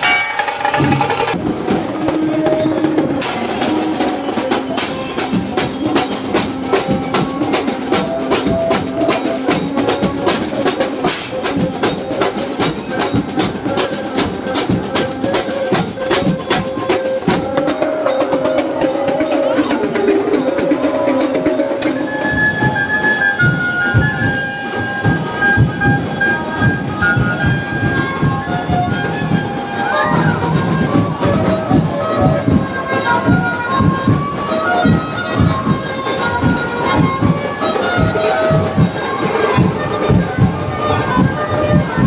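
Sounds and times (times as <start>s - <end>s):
fast continuous drumming: 0.0s - 42.0s
procession band playing: 0.0s - 42.0s.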